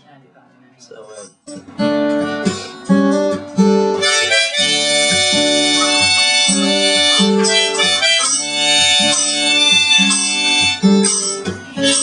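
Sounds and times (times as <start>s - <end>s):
acoustic guitar: 0.8s - 12.0s
harmonica playing chords: 2.4s - 12.0s.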